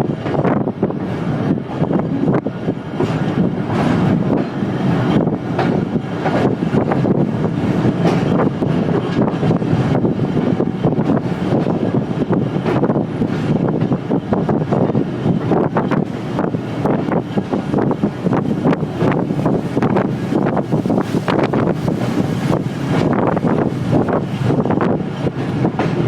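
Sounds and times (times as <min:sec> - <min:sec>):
train coaches rumbling on track: 0:00.0 - 0:26.0
wheels clacking and rattling: 0:00.1 - 0:26.0.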